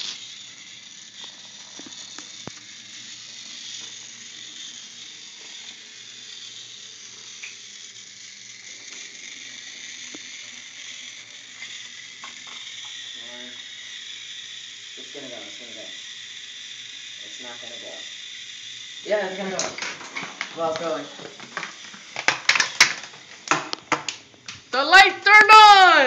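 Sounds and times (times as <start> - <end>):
toy train motor whirring: 0.0 - 26.0.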